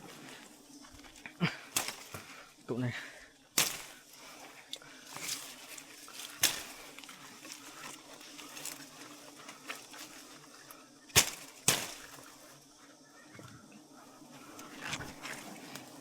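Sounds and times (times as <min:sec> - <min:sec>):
honey bees humming: 0:00.0 - 0:16.0.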